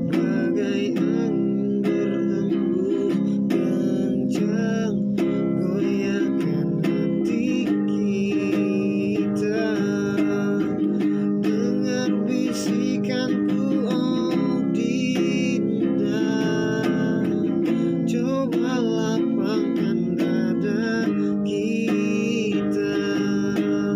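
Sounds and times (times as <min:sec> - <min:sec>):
classical guitar strumming: 0:00.0 - 0:23.9
man singing: 0:00.0 - 0:23.9.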